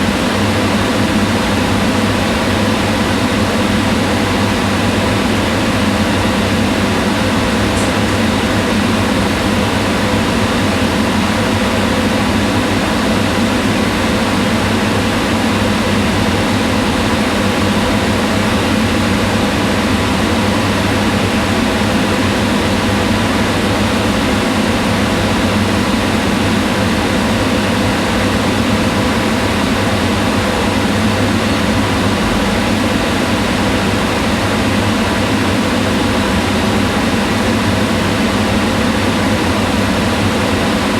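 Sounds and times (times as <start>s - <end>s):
range hood fan whooshing: 0.0s - 40.9s.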